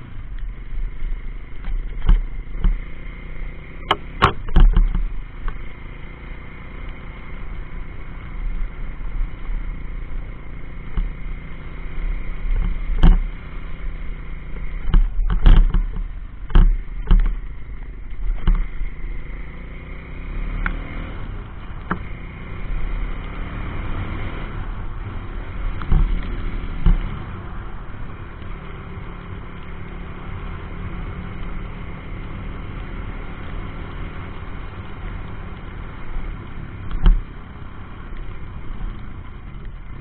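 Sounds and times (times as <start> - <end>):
motorbike engine running: 0.0 - 40.0.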